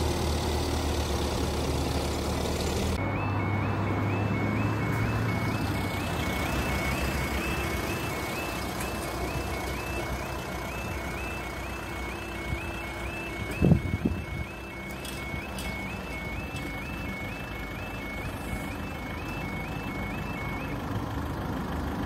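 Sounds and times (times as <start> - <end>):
vehicle engine running: 0.0 - 22.0
two-tone crossing alarm: 2.9 - 20.9.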